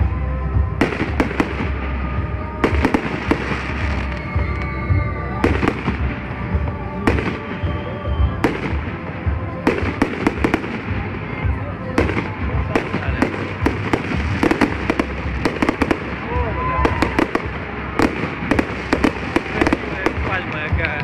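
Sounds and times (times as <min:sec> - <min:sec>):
fireworks bursting with bangs: 0:00.0 - 0:21.0.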